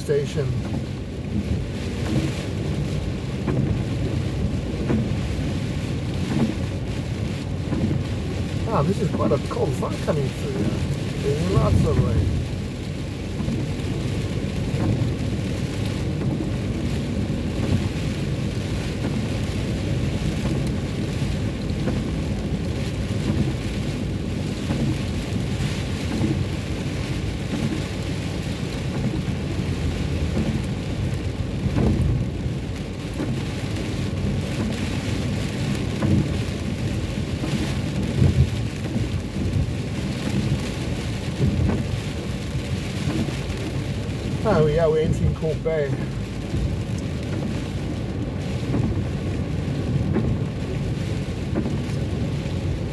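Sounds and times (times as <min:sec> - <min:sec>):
car driving on a wet road: 0:00.0 - 0:52.9
rain on a car: 0:00.0 - 0:52.9.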